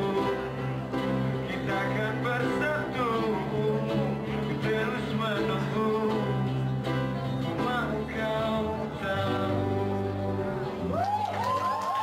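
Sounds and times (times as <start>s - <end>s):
man singing: 0.0s - 10.9s
acoustic guitar strumming: 0.0s - 11.0s.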